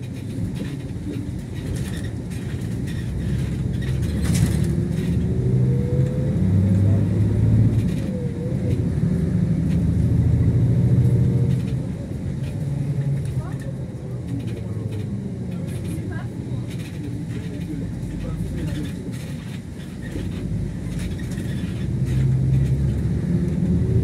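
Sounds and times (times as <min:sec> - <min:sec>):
bus diesel engine rumbling: 0:00.0 - 0:24.0
faint drivetrain whine: 0:00.0 - 0:24.0.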